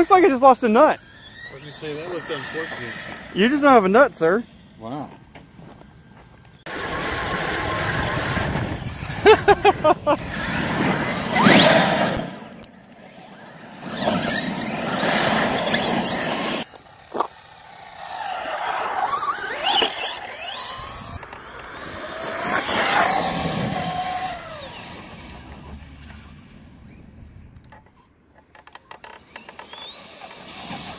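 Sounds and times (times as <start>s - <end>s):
electric motors whining: 0.0s - 27.1s, 28.6s - 30.9s.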